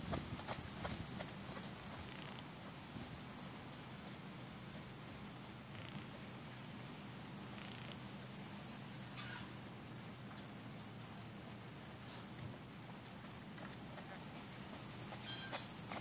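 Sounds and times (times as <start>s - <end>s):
high steady hiss: 0.0s - 16.0s
insects chirping: 0.0s - 16.0s.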